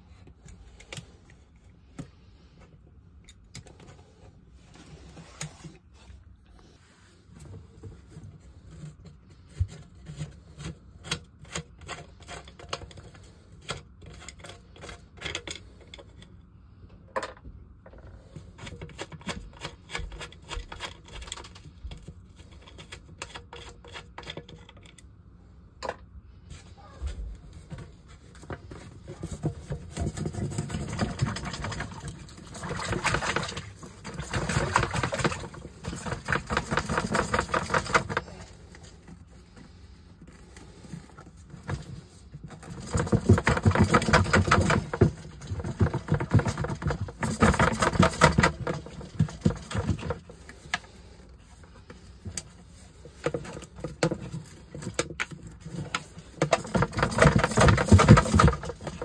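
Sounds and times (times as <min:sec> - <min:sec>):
plastic pipe rasping scrape: 0:03.8 - 0:16.4, 0:17.9 - 0:24.9, 0:26.5 - 0:59.0
clicks and knocks of handling: 0:07.4 - 0:25.2, 0:25.8 - 0:59.0.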